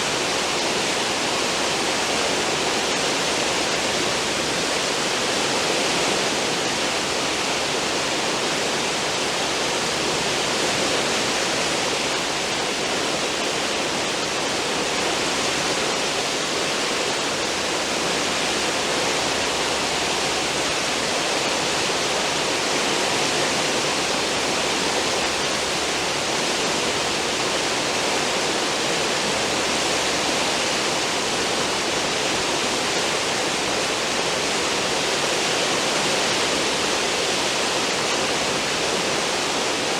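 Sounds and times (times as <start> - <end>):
churning water rushing: 0.0 - 39.9.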